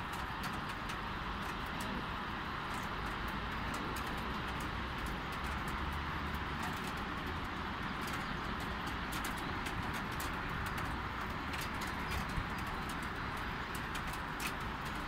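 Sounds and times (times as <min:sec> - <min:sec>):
distant traffic rumble: 0:00.0 - 0:15.0
raindrops ticking: 0:00.0 - 0:15.0.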